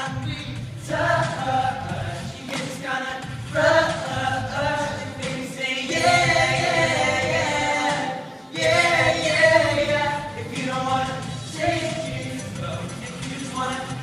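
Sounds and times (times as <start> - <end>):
male group singing a cappella: 0.0 - 14.0.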